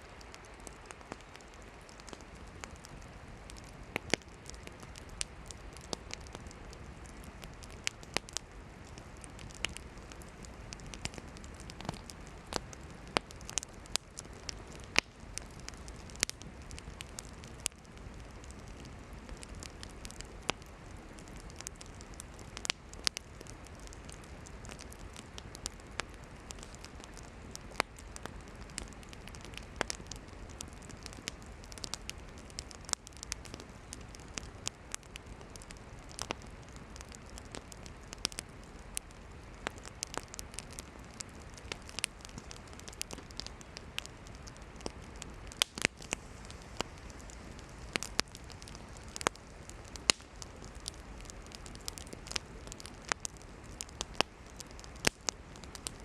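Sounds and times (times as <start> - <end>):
campfire crackling and popping: 0.0 - 56.0
flames hissing: 0.0 - 56.0.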